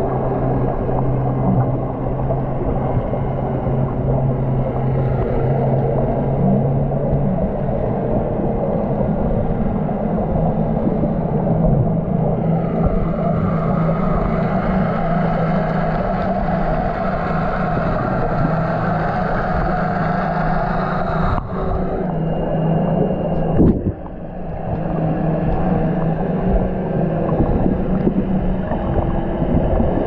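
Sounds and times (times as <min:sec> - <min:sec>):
boat engines heard underwater: 0:00.0 - 0:30.0.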